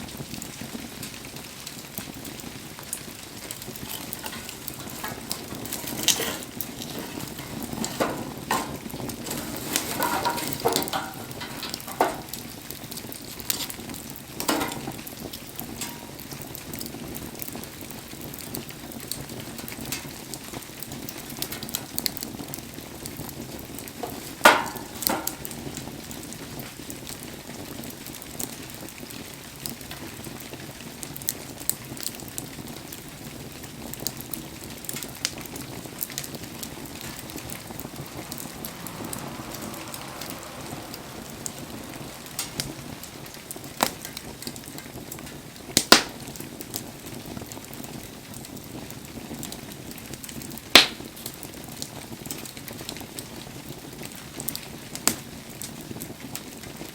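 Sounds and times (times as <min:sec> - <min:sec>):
rain hissing: 0:00.0 - 0:31.6, 0:32.2 - 0:56.9
bonfire crackling and popping: 0:00.0 - 0:56.9.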